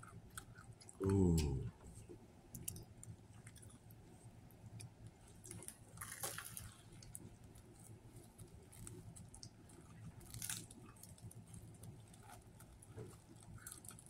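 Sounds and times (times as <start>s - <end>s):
man chewing sandwich: 0.0s - 14.0s.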